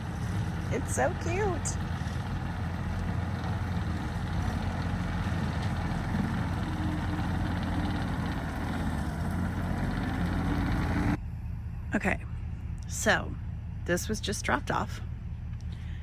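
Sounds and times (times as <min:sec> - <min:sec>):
diesel excavator engine droning: 0:00.0 - 0:16.0.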